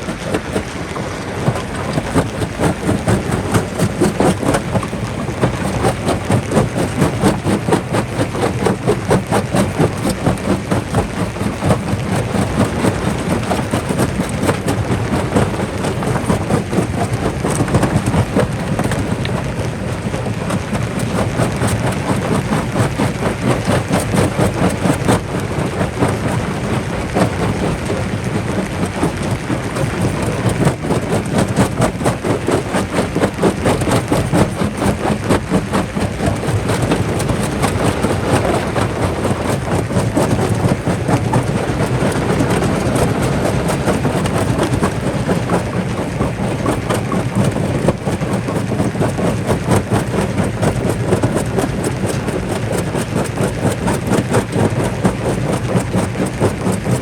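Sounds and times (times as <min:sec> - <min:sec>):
rock crusher rumbling: 0:00.0 - 0:57.0
rock rattling and cracking: 0:00.0 - 0:57.0.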